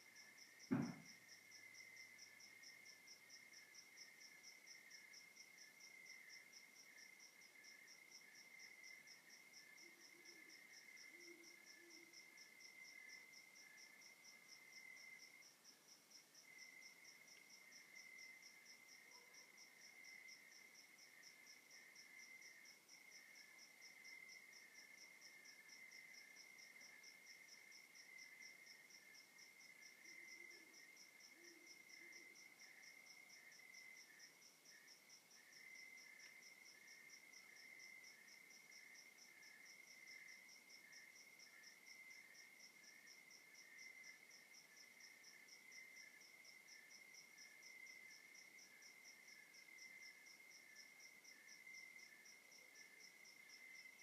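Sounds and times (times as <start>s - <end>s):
cricket continuous trill: 0.0s - 54.0s
soft cricket chirps: 0.0s - 54.0s.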